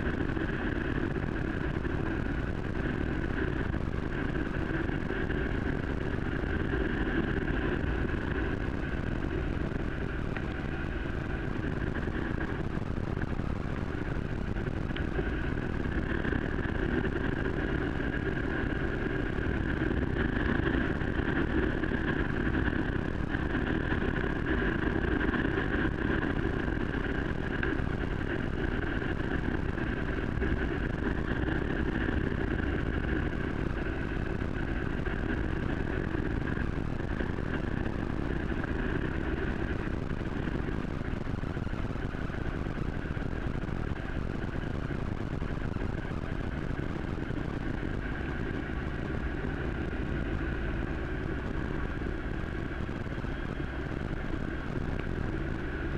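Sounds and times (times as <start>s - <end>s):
motorcycle engine drone: 0.0s - 55.9s
wind noise: 0.0s - 55.9s.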